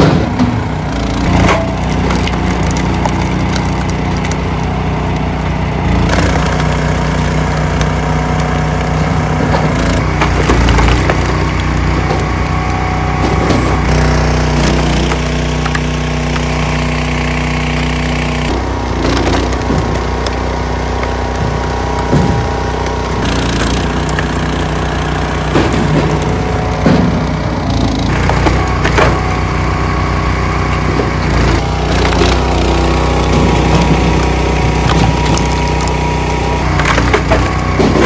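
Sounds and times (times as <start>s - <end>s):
small gas engine running: 0.0s - 38.0s
wood cracking and splintering: 0.0s - 38.0s.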